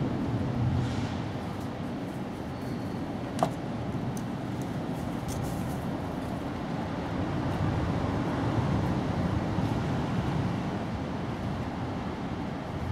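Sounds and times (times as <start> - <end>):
low rumbling background noise: 0.0 - 12.9.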